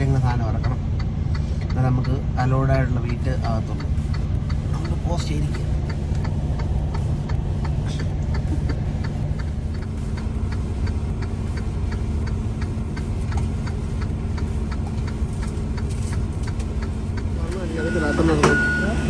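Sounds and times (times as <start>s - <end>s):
diesel truck engine idling: 0.0s - 19.0s
engine ticking: 0.0s - 19.0s.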